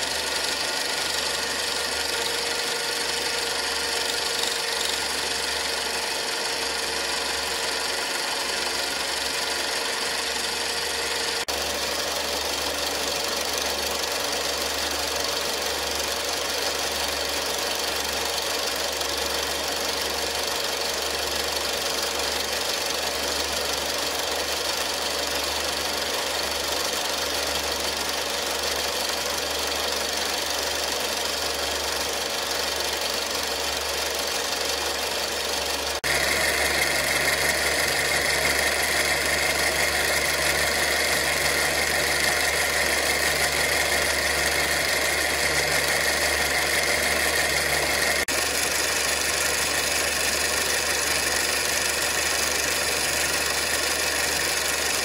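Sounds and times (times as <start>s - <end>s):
film projector running: 0.0s - 55.0s.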